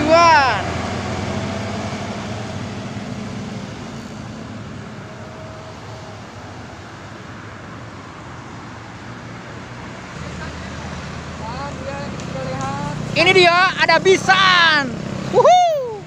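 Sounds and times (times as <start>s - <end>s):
heavy vehicle engine hum: 0.0s - 16.0s
passing cars: 0.0s - 16.0s.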